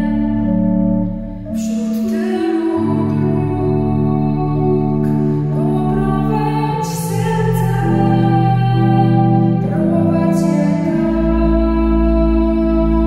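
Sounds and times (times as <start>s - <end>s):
instrumental held chords: 0.0s - 13.0s
woman singing into microphone: 0.0s - 13.0s.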